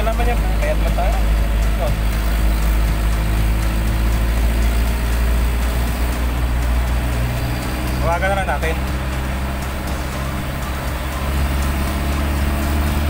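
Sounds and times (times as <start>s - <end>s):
car engine and road rumble: 0.0s - 13.0s
tyres on wet road: 0.0s - 13.0s.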